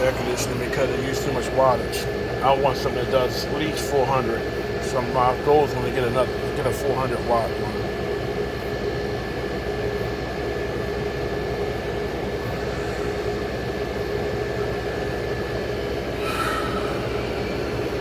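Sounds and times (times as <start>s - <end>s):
air conditioner running: 0.0s - 18.0s
faint constant whine: 0.0s - 18.0s.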